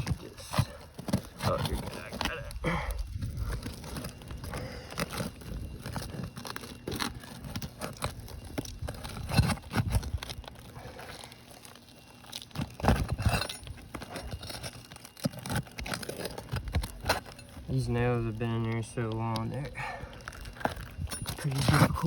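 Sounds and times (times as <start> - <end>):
shingles crackling and tearing: 0.0 - 22.0.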